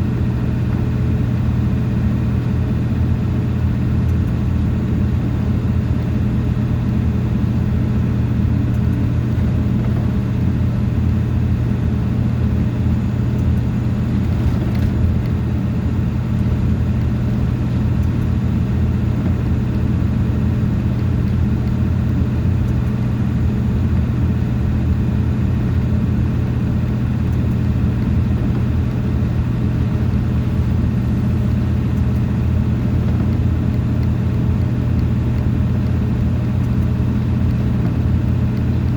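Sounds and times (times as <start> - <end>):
vehicle engine and road drone: 0.0 - 38.9.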